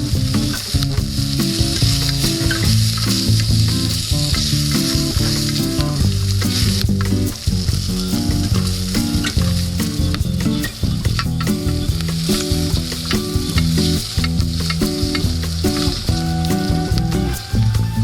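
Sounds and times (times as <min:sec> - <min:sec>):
changing pitched notes: 0:00.0 - 0:18.0
fire crackling: 0:00.0 - 0:18.0
food sizzling: 0:00.0 - 0:18.0.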